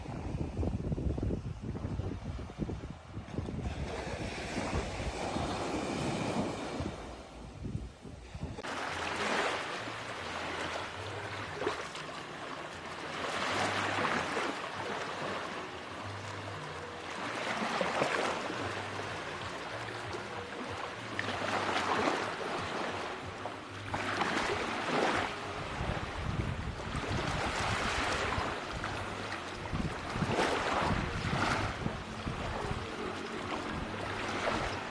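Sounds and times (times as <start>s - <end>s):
sea waves breaking on beach: 3.6s - 7.5s, 8.5s - 34.9s.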